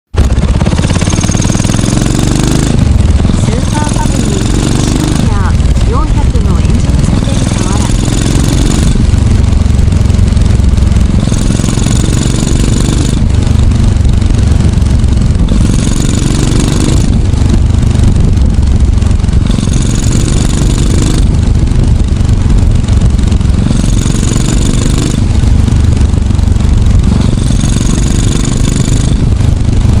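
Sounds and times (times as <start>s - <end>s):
motorcycle engine exhaust beat: 0.1s - 30.0s.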